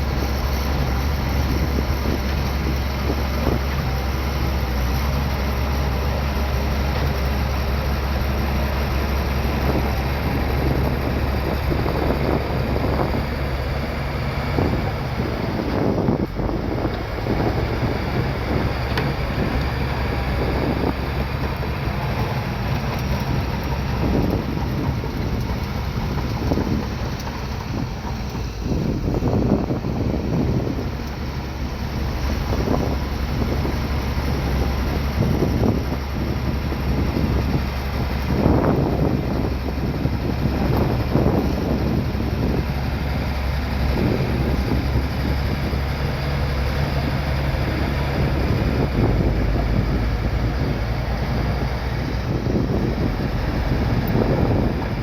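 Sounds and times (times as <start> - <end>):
bulldozer engine running: 0.0 - 55.0
wind noise on microphone: 0.0 - 55.0.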